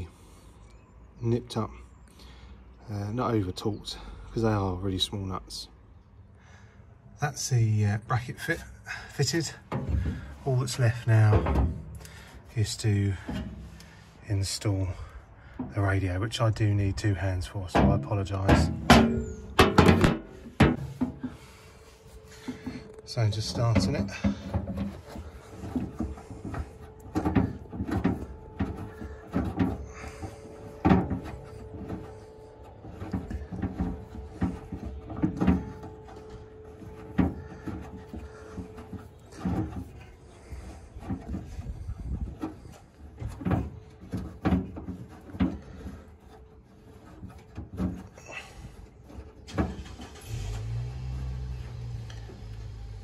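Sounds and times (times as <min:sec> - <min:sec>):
knocks and clunks on metal: 0:08.6 - 0:53.0.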